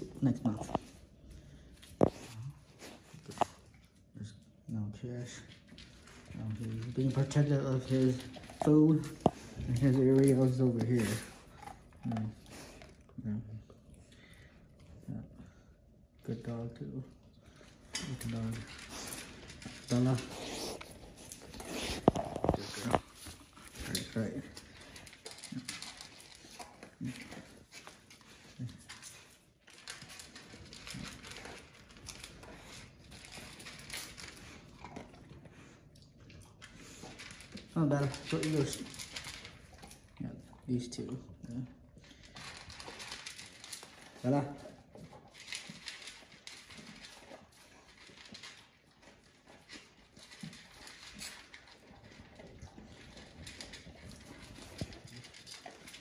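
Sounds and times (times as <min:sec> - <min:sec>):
dog crunching dry kibble: 0:00.0 - 0:56.0.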